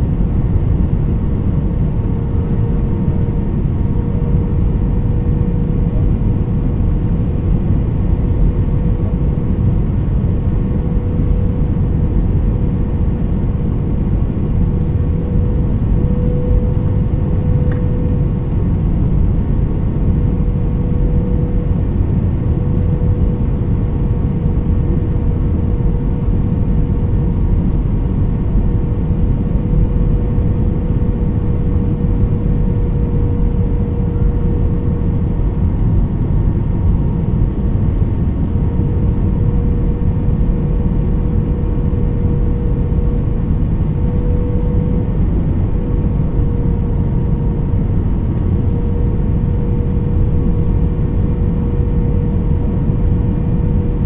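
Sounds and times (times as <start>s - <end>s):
airliner cabin engine rumble: 0.0s - 54.0s
constant mid-pitched hum: 0.0s - 54.0s.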